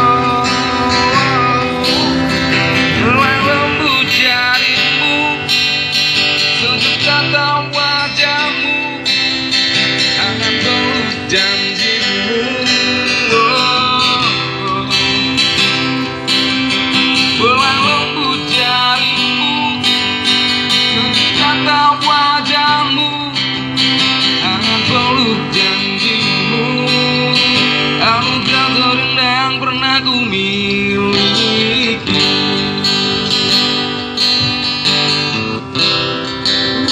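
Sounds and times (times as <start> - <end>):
amplified acoustic guitar: 0.0 - 36.9.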